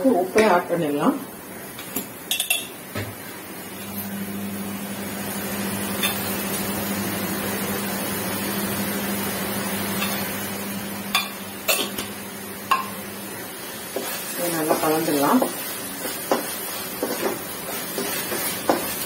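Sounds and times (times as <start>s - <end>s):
low hum with hiss: 0.0s - 19.0s.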